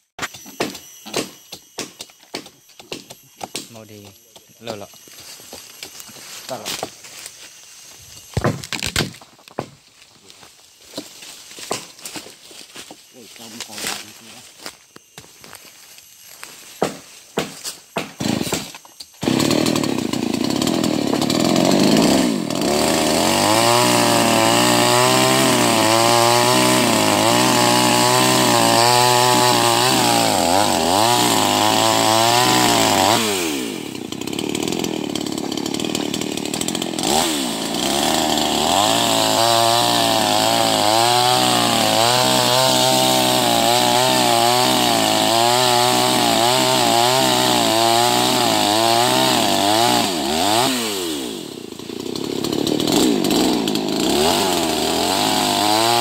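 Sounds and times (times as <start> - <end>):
chainsaw cutting wood: 0.2 - 56.0.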